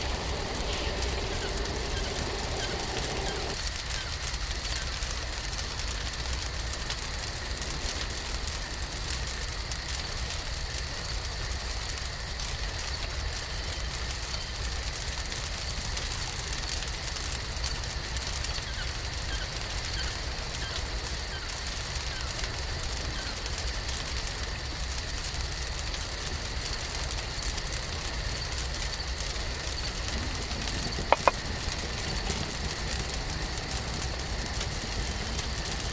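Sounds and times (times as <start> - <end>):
steady hiss: 0.0 - 35.9
wood fire crackling: 0.0 - 35.9.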